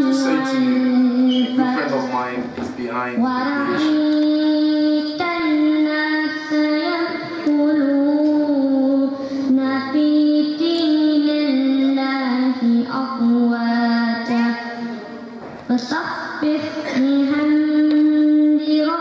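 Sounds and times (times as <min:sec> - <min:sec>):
boy chanting recitation: 0:00.0 - 0:19.0.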